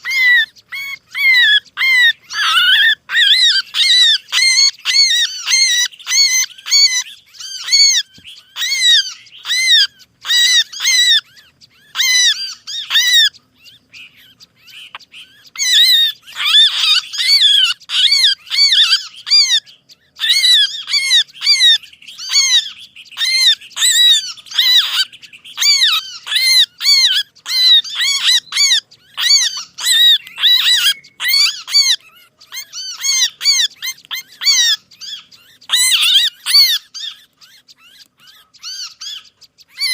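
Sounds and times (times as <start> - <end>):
songbirds chattering calls: 0.0 - 39.9.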